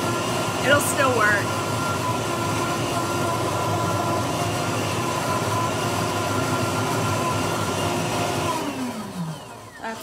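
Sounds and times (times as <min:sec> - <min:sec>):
blender motor whining: 0:00.0 - 0:10.0.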